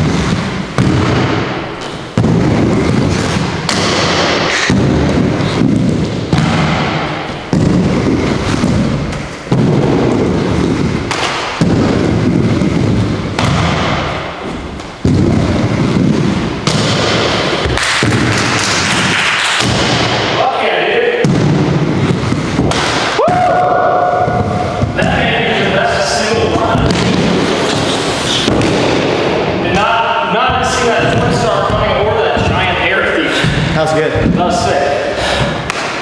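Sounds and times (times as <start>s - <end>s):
skate wheels rolling on wood: 0.0s - 36.0s.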